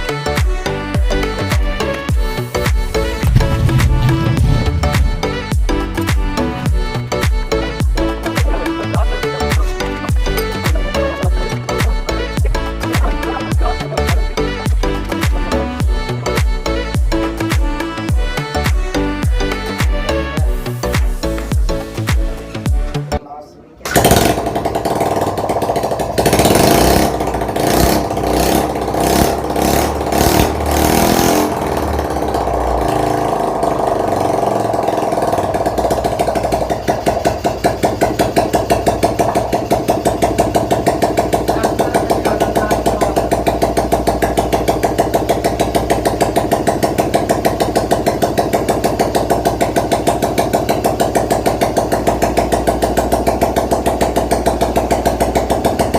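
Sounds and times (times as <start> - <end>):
scooter engine running: 0.0 - 22.8, 23.8 - 55.9.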